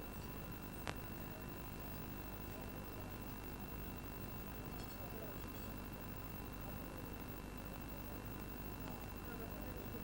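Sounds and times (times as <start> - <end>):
low background noise: 0.0 - 10.0
thin high whine: 0.0 - 10.0.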